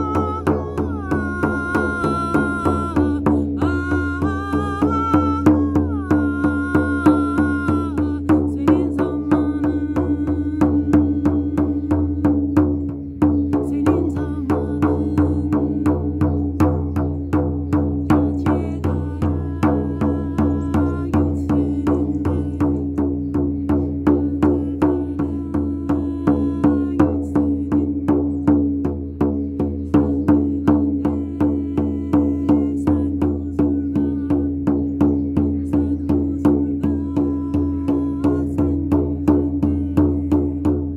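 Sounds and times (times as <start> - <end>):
steady drum beat: 0.0 - 40.9.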